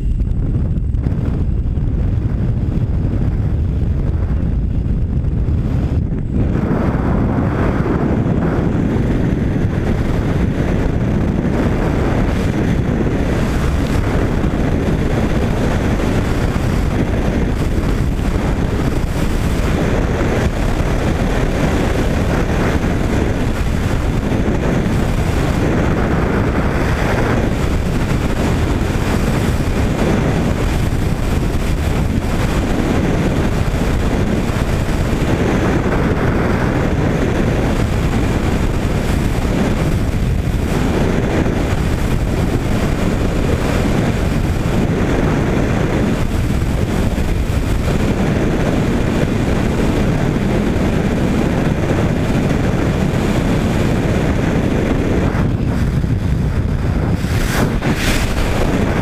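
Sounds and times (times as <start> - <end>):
aircraft engine and slipstream: 0.0 - 59.0
wind rushing over microphone: 0.0 - 59.0.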